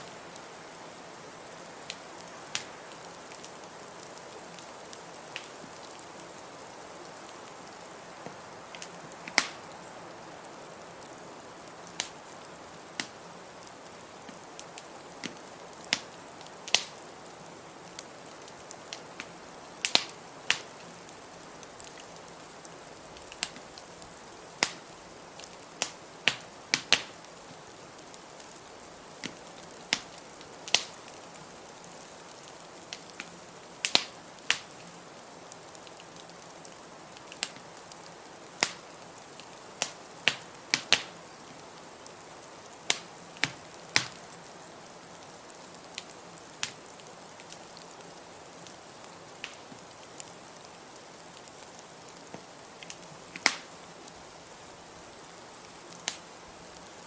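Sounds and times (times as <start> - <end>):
steady hiss: 0.0 - 57.0
wood fire crackling: 0.0 - 57.0.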